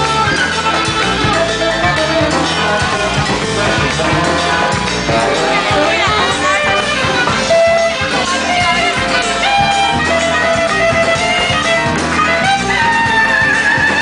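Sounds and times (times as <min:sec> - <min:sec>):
brass horns playing melody: 0:00.0 - 0:14.0
samba drumming: 0:00.0 - 0:14.0.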